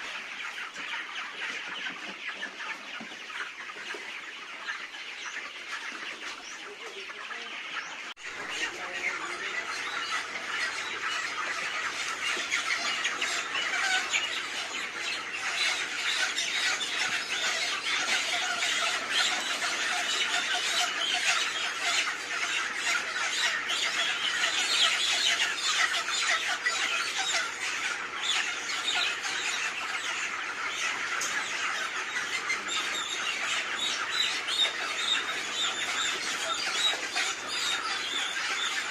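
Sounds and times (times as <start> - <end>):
chickens squawking and screeching: 0.0 - 38.9.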